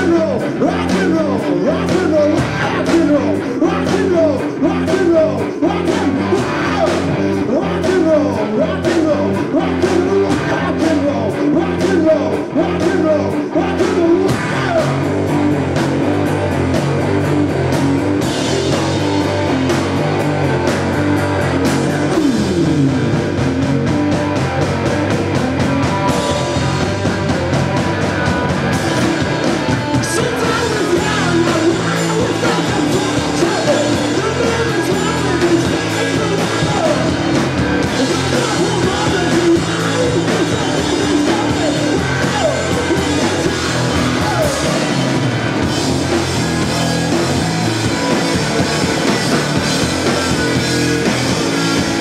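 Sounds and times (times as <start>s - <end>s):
bass guitar: 0.0s - 52.0s
drums and cymbals: 0.0s - 52.0s
electric guitar: 0.0s - 52.0s.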